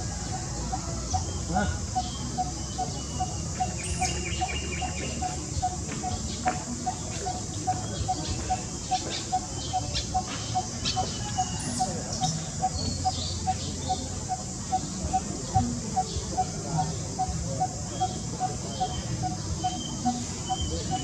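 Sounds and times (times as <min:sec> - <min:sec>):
bird repeating low note: 0:00.0 - 0:21.0
higher bird chirps: 0:00.0 - 0:21.0.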